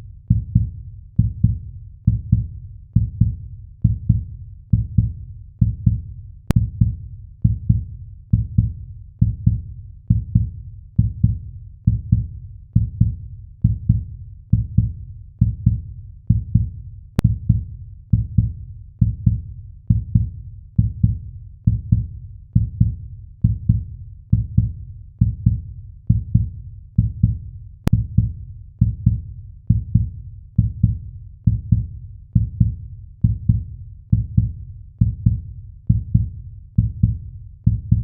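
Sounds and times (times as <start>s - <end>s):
heartbeat thumps: 0.3s - 38.0s.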